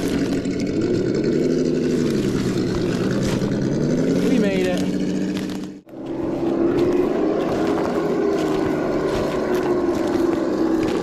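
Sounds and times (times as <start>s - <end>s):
simulated engine drone: 0.0s - 11.0s.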